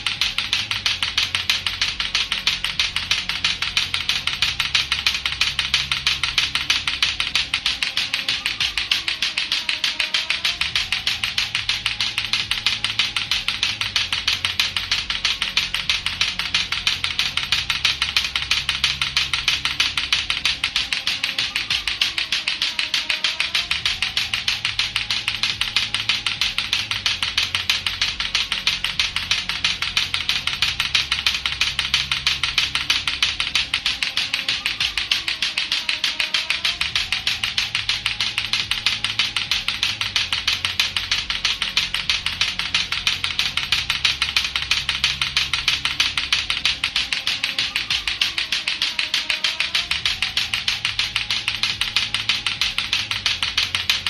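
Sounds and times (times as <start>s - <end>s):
backing music: 0.0s - 54.0s
plastic clacker balls knocking: 0.0s - 54.0s.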